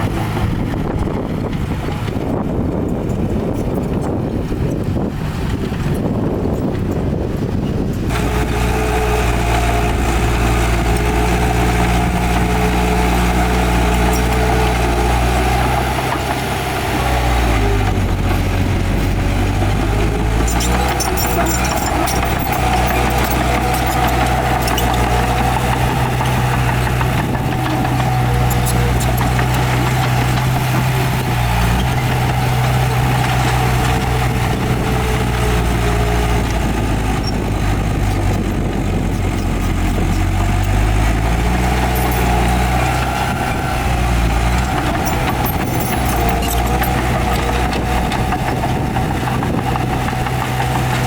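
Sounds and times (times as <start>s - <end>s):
heavy diesel engines humming: 0.0s - 51.0s.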